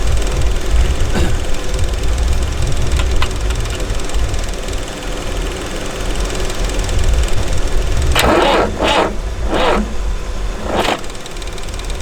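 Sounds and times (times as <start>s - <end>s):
diesel engine cranking: 0.0s - 12.0s.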